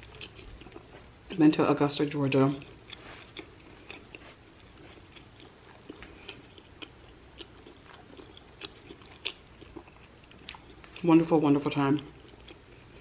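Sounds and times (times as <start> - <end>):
person chewing with mouth clicks: 0.0 - 1.4, 2.5 - 11.1, 11.9 - 13.0.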